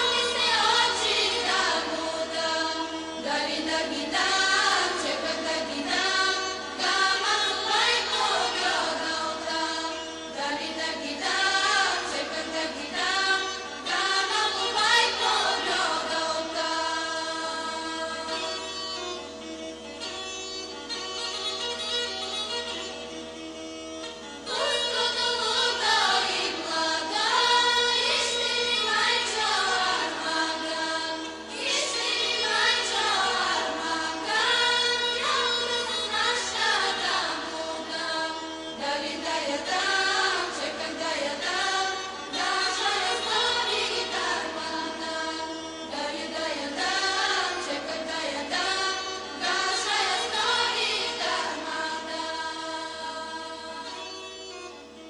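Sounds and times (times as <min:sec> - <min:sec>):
voices singing melody: 0:00.0 - 0:18.7, 0:24.4 - 0:54.0.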